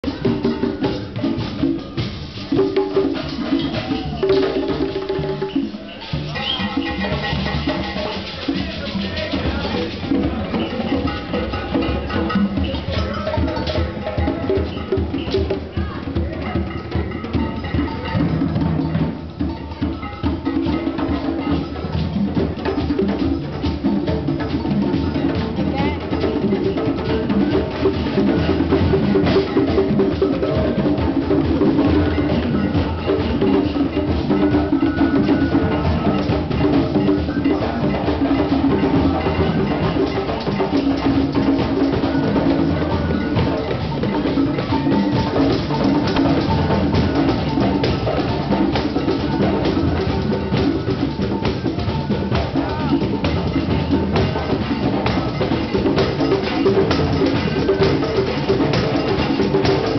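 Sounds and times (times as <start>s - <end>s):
hand drums playing a groove: 0.0s - 59.9s.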